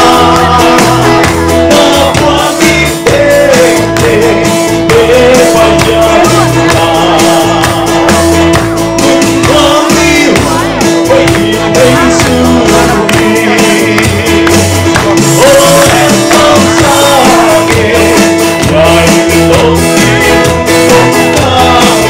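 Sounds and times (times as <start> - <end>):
acoustic guitar strumming: 0.0 - 22.0
electric bass guitar: 0.0 - 22.0
men singing together: 0.0 - 22.0.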